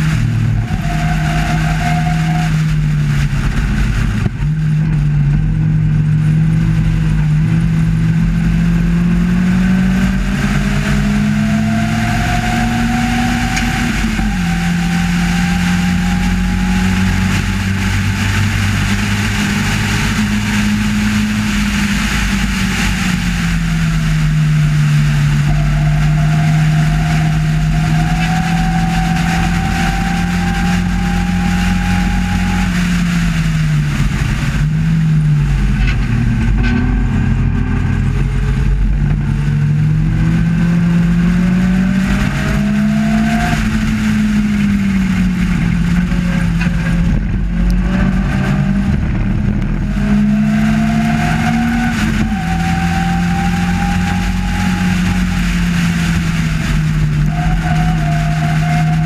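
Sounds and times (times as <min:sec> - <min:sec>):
race car engine: 0:00.0 - 0:59.0
wind and road noise: 0:00.0 - 0:59.0.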